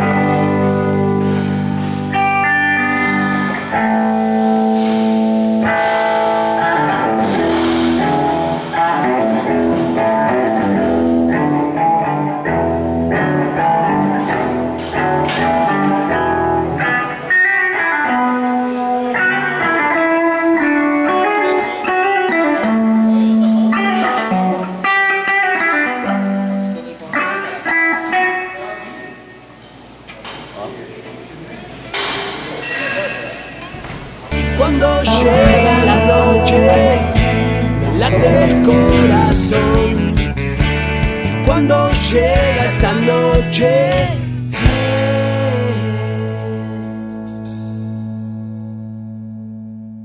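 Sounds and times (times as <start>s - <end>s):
blues-rock guitar music: 0.0s - 29.2s, 34.3s - 50.0s.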